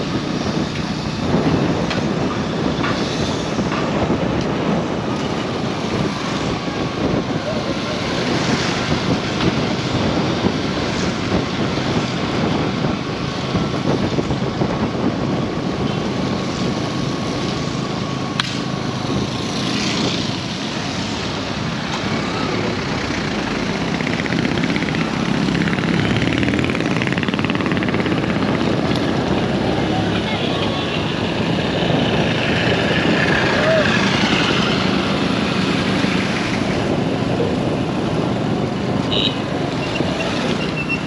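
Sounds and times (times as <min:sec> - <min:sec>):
passing road traffic: 0:00.0 - 0:41.0.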